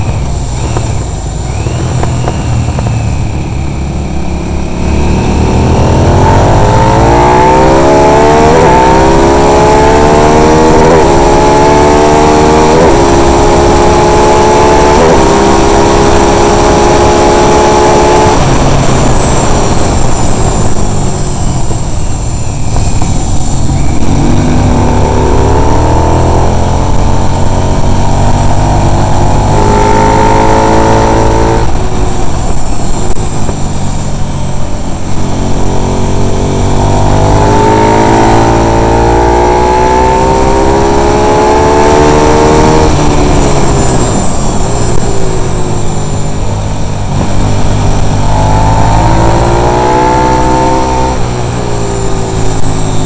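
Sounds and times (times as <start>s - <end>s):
racing motorcycle engine accelerating: 0.0s - 53.0s
rushing wind and road noise: 0.0s - 53.0s.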